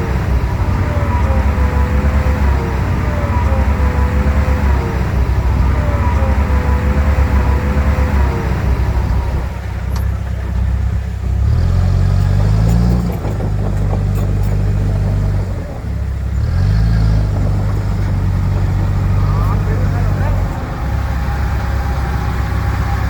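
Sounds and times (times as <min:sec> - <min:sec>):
heavy diesel engine revving: 0:00.0 - 0:23.0.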